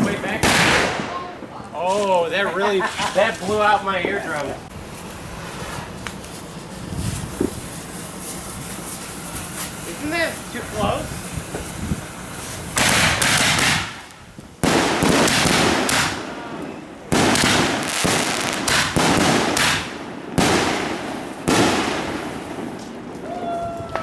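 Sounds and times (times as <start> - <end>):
fireworks bangs: 0.0 - 1.8, 4.8 - 24.0.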